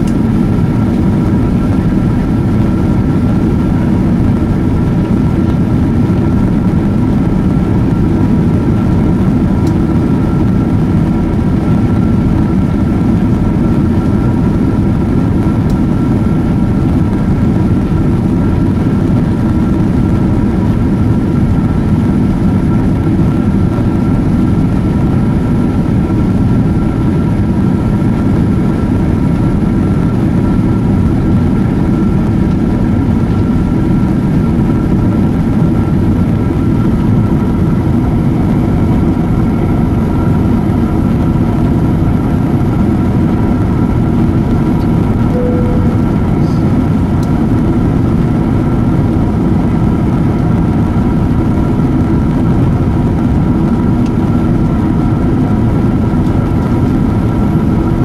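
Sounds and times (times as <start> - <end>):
aircraft cabin rumble: 0.0 - 58.0
faint steady whining tones: 0.0 - 58.0.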